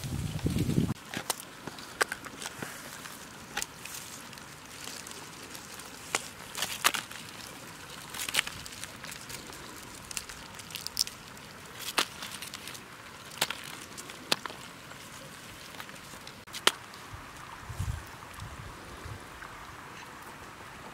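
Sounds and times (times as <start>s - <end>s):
clicks and rustles from bamboo basket: 0.0s - 16.9s.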